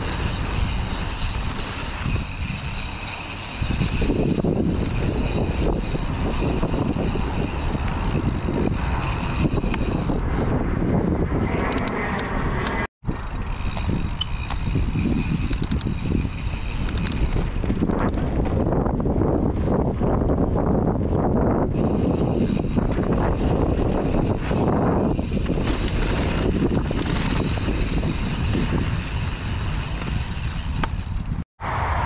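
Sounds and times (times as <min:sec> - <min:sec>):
freehub buzzing: 0:00.0 - 0:10.6, 0:13.0 - 0:19.0, 0:20.3 - 0:31.4
bike tyres rumbling over dirt: 0:00.0 - 0:11.1, 0:13.0 - 0:31.4
wind buffeting microphone: 0:00.0 - 0:32.0.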